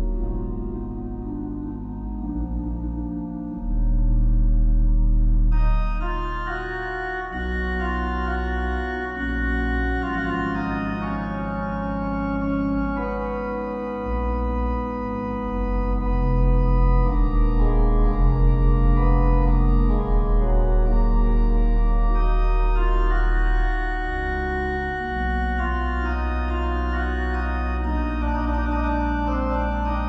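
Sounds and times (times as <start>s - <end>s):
organ chords: 0.0s - 30.0s.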